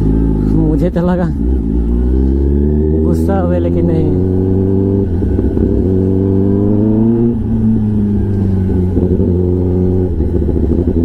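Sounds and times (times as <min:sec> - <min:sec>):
motorcycle engine running loudly: 0:00.0 - 0:11.0.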